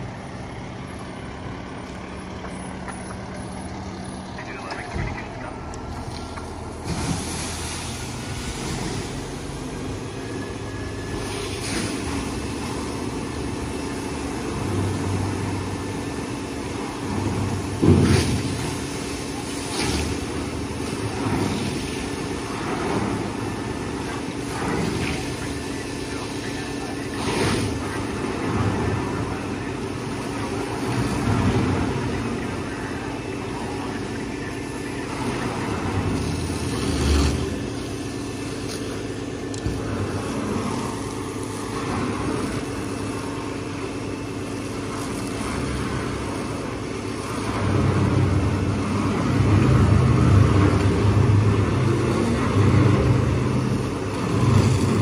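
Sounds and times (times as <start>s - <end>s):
fire engine pump drone: 0.0s - 55.0s
hose spraying water: 5.9s - 55.0s.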